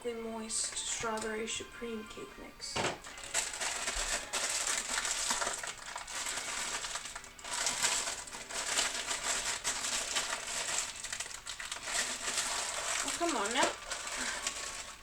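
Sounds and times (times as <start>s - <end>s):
plastic bag crinkling: 2.8s - 15.0s.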